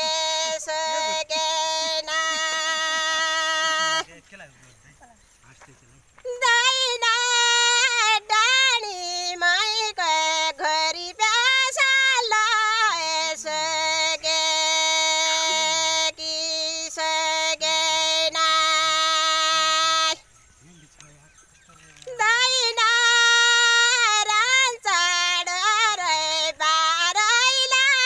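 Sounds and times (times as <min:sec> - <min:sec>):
woman singing unaccompanied: 0:00.0 - 0:04.1, 0:06.2 - 0:20.3, 0:22.0 - 0:28.0.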